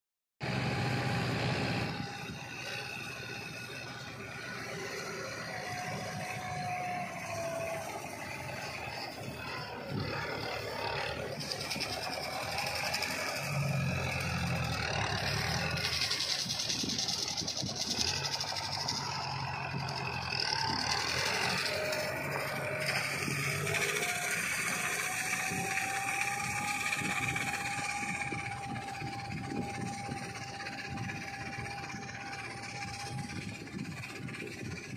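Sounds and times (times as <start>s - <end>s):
tractor diesel engine droning: 0.4s - 34.9s.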